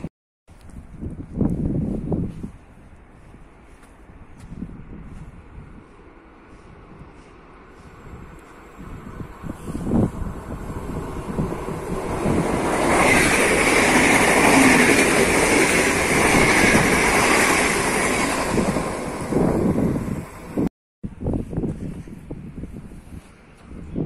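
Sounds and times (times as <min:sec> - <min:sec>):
train running on tracks: 0:00.0 - 0:24.0.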